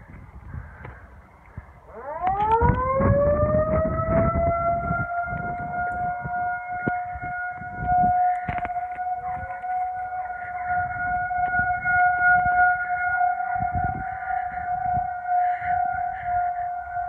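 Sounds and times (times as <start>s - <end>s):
warning siren wailing: 1.8s - 17.0s.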